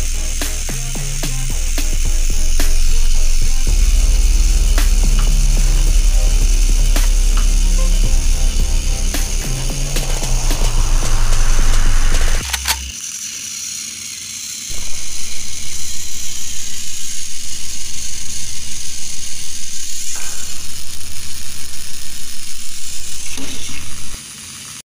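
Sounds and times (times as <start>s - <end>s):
toy train engines pulsing: 0.0s - 24.8s.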